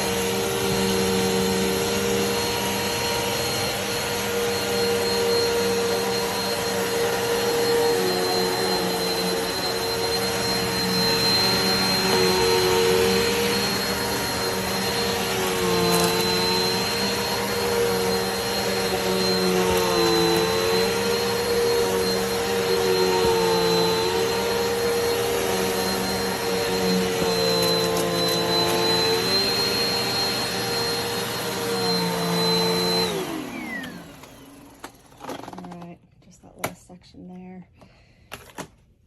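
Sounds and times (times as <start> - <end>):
vacuum cleaner whining: 0.0 - 36.7.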